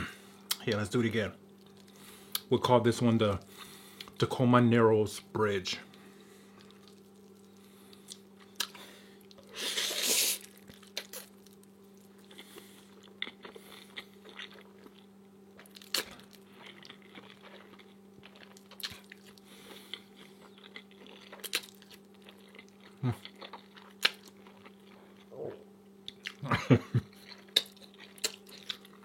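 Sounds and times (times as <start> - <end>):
steady low hum: 0.0 - 29.0
soft chewing and mouth clicks: 1.5 - 2.5, 5.9 - 25.3, 26.0 - 29.0.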